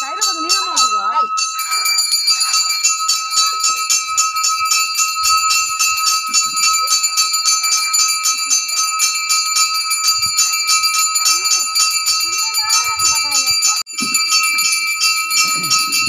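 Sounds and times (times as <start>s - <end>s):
brass bell rung rapidly: 0.0s - 16.0s.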